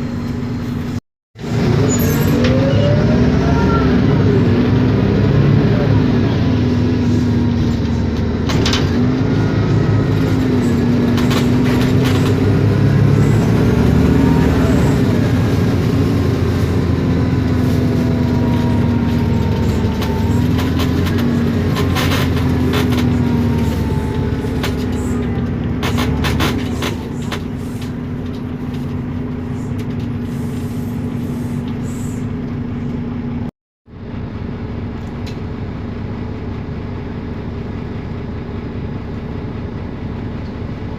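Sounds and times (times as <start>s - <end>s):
bus engine whining: 0.0s - 40.9s.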